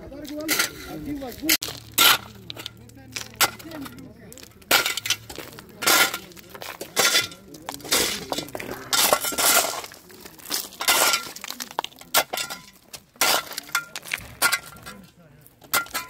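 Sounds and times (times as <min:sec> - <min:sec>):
shovel chopping ice and gravel: 0:00.3 - 0:16.0.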